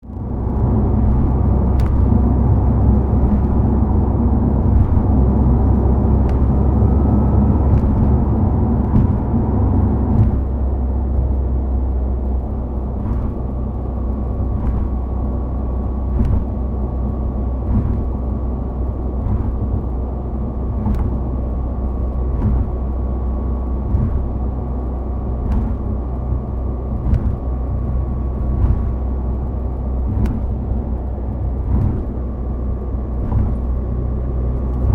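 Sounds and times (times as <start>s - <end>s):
car engine rumbling: 0.0s - 34.9s
tyre and road noise: 0.0s - 34.9s.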